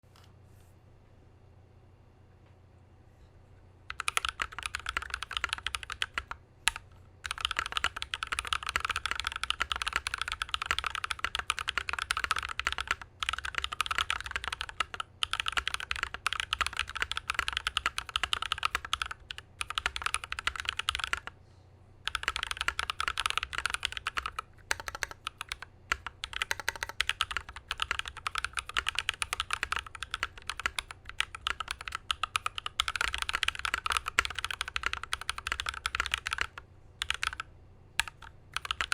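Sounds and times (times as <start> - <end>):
fast mechanical keyboard typing: 3.9 - 21.3, 22.0 - 38.9.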